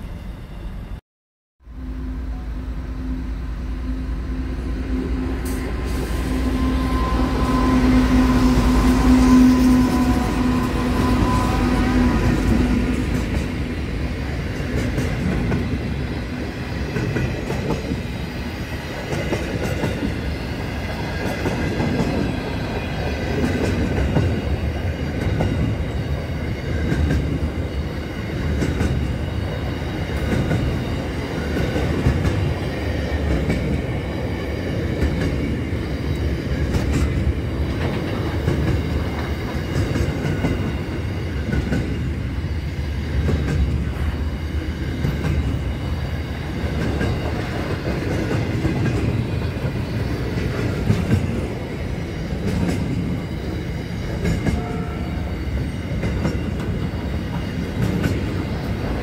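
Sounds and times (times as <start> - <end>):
locomotive tone: 1.6 - 59.0.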